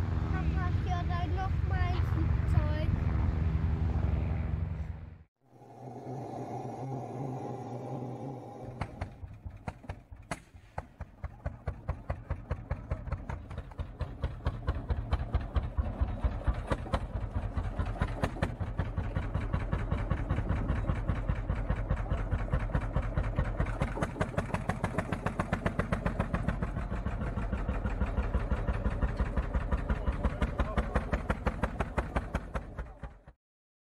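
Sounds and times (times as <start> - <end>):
engine running slowly: 0.0 - 33.4.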